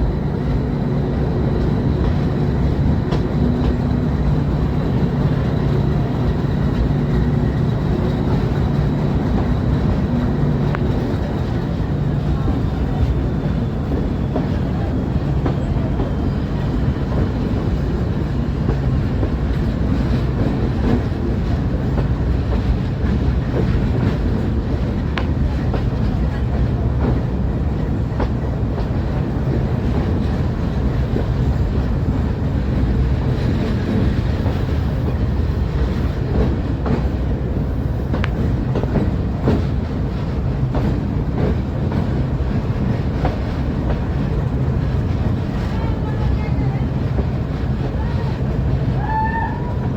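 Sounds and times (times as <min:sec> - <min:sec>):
train rumbling on track: 0:00.0 - 0:49.9.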